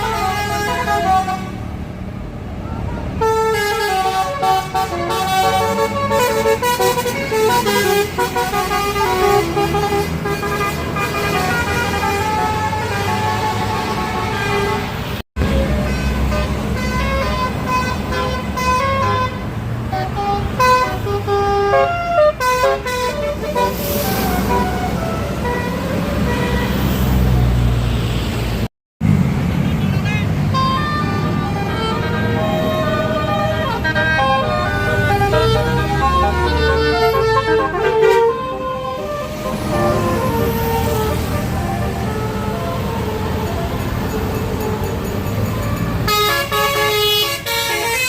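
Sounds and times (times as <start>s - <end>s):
multi-tone air horn melody: 0.0s - 1.6s, 3.2s - 26.9s, 30.5s - 48.0s
bus engine running: 0.0s - 27.8s, 28.5s - 48.0s.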